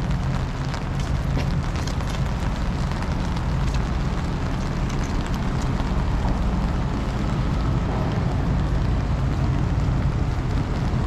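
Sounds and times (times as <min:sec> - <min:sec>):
ship machinery rumbling: 0:00.0 - 0:11.0
wind and rain hiss: 0:00.0 - 0:11.0.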